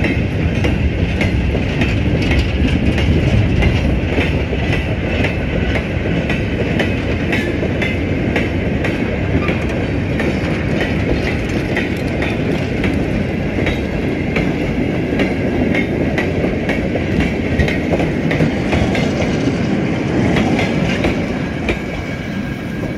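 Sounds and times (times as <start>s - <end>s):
wheels clacking over rail joints: 0.0s - 22.1s.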